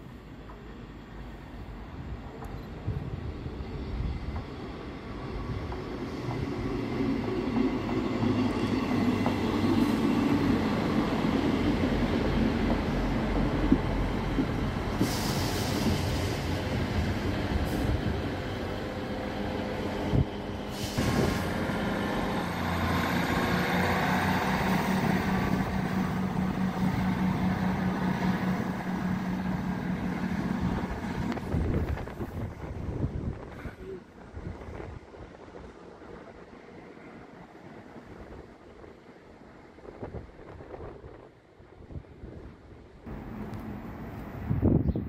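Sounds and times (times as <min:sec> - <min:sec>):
diesel train approaching: 0:00.0 - 0:45.0
diesel train passing: 0:00.0 - 0:45.0.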